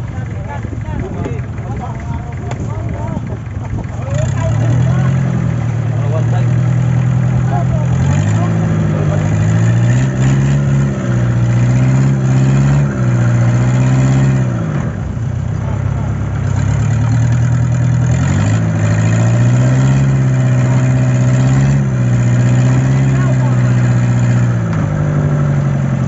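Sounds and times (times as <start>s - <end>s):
boat engine running loudly: 0.0s - 26.0s.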